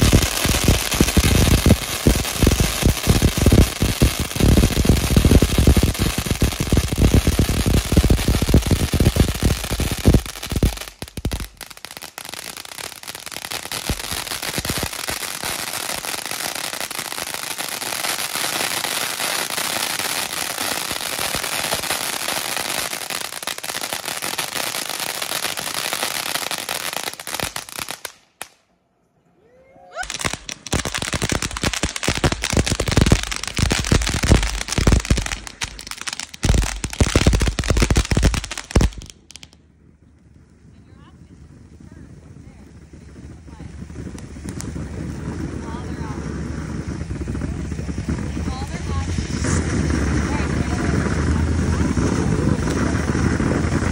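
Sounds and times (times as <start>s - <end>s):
fireworks hissing: 0.0s - 28.2s, 30.0s - 39.6s, 41.2s - 53.9s
fireworks crackling and popping: 0.0s - 28.7s, 30.0s - 53.9s.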